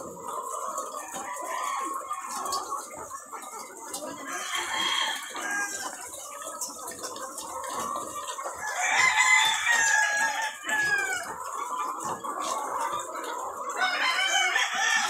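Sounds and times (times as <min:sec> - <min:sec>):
hens clucking and cackling: 0:00.0 - 0:15.0.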